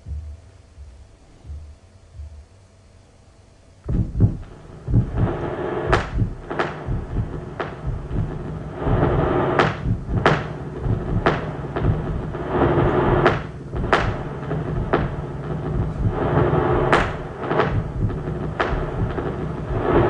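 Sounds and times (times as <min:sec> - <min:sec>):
sharp bangs: 0:03.8 - 0:20.0
rumbling noise wash: 0:03.9 - 0:20.0.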